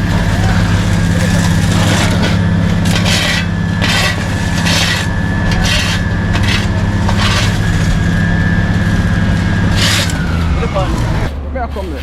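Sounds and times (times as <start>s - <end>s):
diesel engine running: 0.0s - 12.0s
rough scrapes: 0.0s - 12.0s.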